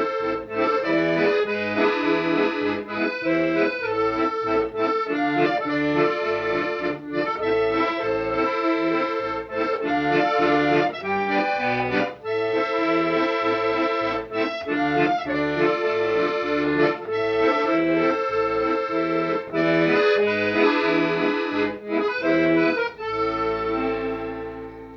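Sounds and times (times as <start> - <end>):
accordion music: 0.0 - 24.9.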